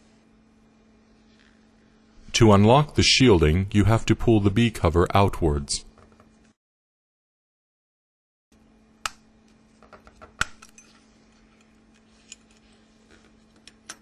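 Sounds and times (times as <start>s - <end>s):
faint steady hum: 0.0s - 6.6s, 8.6s - 14.0s.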